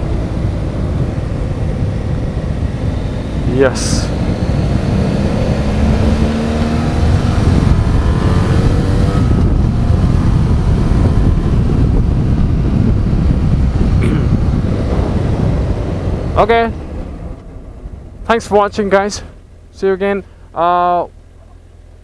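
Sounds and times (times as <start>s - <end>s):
wind rushing over microphone: 0.0s - 19.1s
motorcycle engine running: 0.0s - 22.0s.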